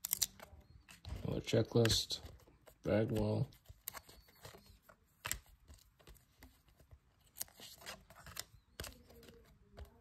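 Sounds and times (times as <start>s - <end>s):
card edges snapping: 0.0s - 6.5s, 7.2s - 10.0s
trading cards sliding and clicking: 0.0s - 10.0s.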